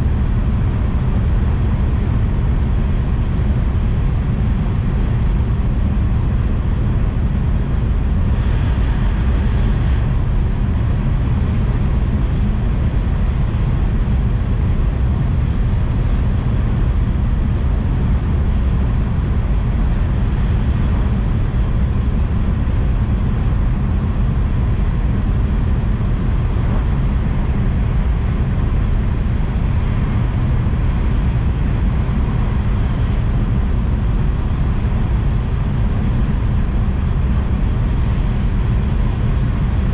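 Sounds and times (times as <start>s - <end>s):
train rumble and hiss inside cabin: 0.0s - 39.9s.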